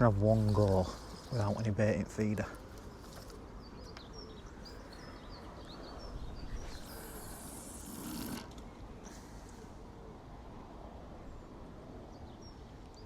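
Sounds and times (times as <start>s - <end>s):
small birds twittering: 0.0s - 9.7s, 11.2s - 13.0s.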